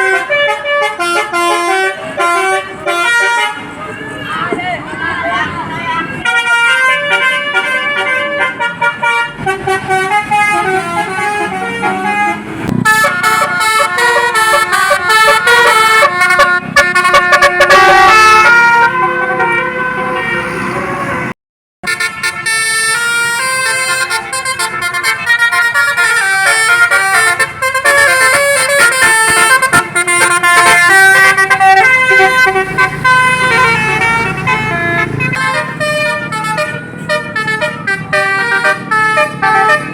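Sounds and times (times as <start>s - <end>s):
bus multi-tone air horns: 0.0s - 39.9s.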